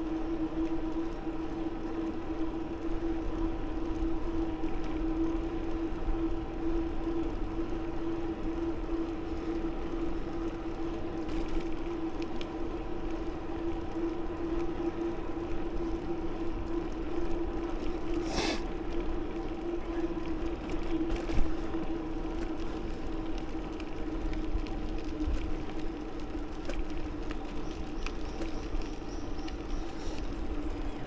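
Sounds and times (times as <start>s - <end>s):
bicycle riding hum: 0.0s - 31.0s.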